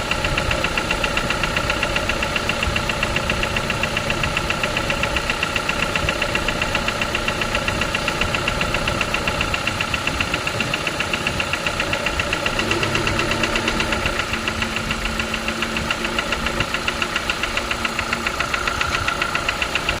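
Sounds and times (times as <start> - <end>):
car engine idling with knocking: 0.0 - 20.0.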